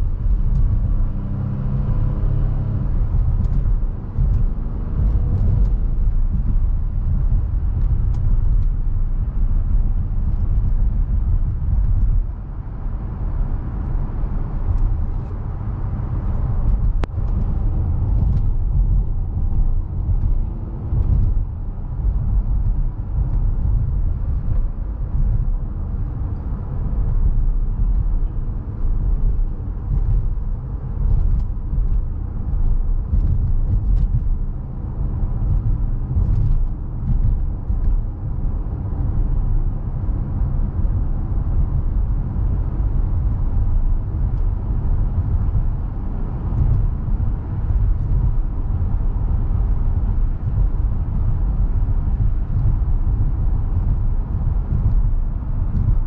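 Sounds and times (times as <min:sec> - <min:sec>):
car engine cruising: 0:00.0 - 0:56.0
tyres rumbling on road: 0:00.0 - 0:56.0.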